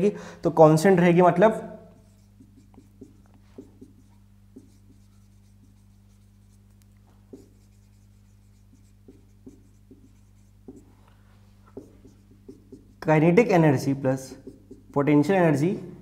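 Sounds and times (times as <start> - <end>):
steady low hum: 0.0 - 16.0
marker writing on whiteboard: 2.0 - 15.3.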